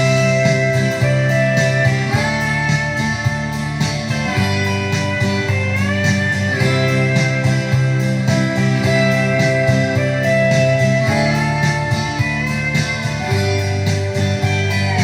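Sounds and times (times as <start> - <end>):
plucked guitar music: 0.0 - 15.0
steady beat: 0.0 - 15.0.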